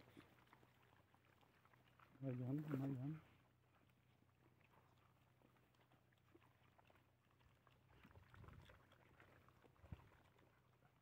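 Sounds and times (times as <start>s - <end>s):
dogs chewing and lapping: 0.0s - 11.0s.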